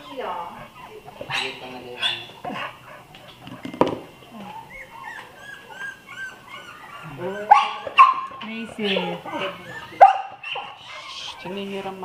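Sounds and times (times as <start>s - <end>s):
puppy yelp: 0.0s - 3.0s, 4.4s - 11.5s
puppies whimpering and yipping: 0.0s - 12.0s.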